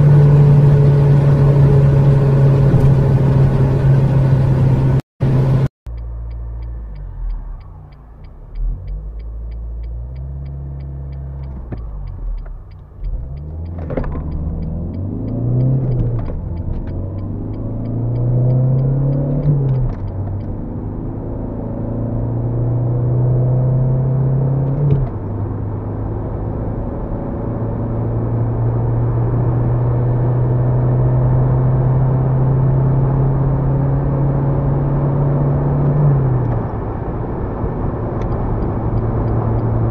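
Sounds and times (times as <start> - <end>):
diesel engine accelerating: 0.0 - 39.9
road rumble: 0.0 - 39.9.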